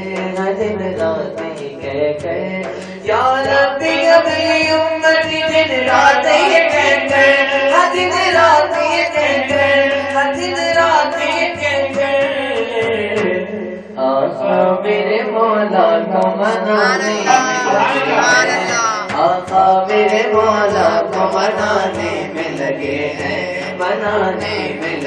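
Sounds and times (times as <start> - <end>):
man singing into a microphone: 0.0 - 25.0.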